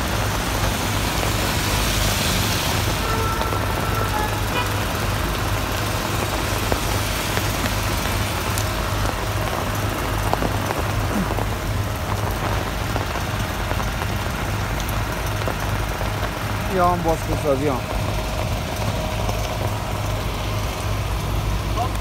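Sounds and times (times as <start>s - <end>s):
heavy rain on wet street: 0.0s - 22.0s.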